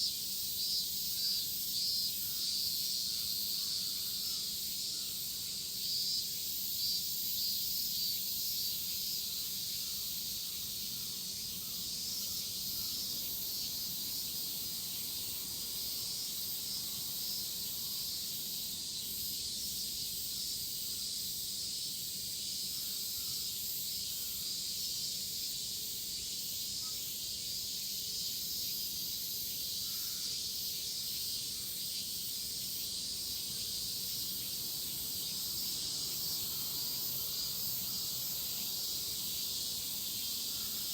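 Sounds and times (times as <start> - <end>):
cicadas shrilling: 0.0 - 40.9.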